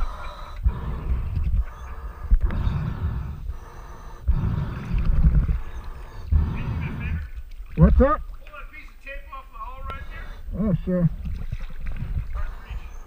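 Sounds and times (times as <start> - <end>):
water sloshing and bubbling: 0.0 - 13.0.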